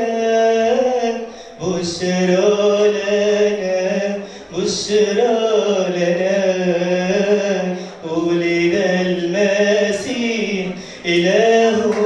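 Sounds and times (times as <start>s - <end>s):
man singing a hymn: 0.0s - 12.0s.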